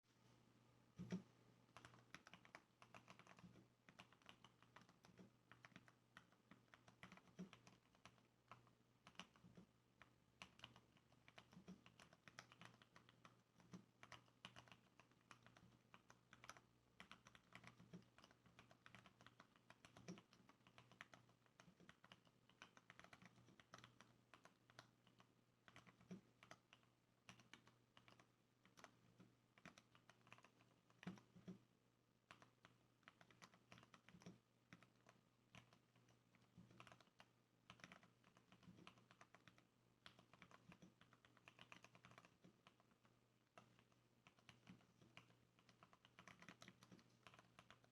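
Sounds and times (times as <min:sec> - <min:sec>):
muted keyboard typing: 0:01.0 - 0:31.6, 0:32.2 - 0:47.9.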